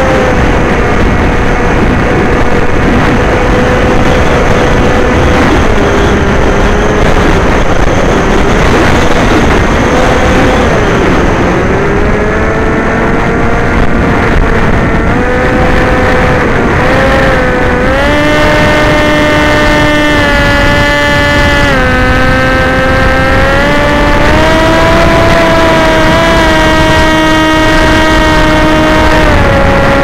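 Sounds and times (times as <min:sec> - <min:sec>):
motor and propeller whine: 0:00.0 - 0:30.0
wind rush over microphone: 0:00.0 - 0:30.0.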